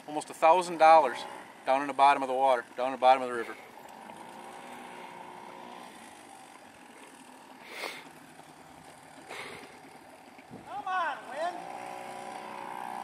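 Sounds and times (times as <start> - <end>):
distant outboard motor hum: 0.0 - 13.0.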